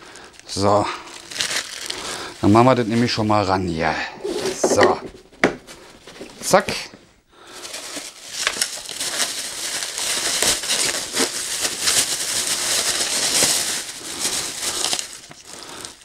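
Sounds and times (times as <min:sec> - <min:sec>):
plastic wrapping crinkling: 0:00.0 - 0:06.8, 0:07.4 - 0:16.0.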